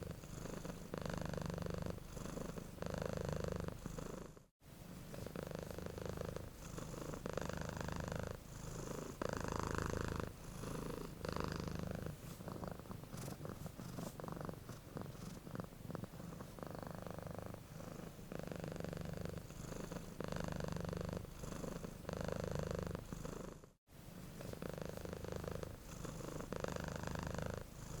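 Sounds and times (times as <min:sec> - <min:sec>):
cat snoring: 0:00.0 - 0:28.0.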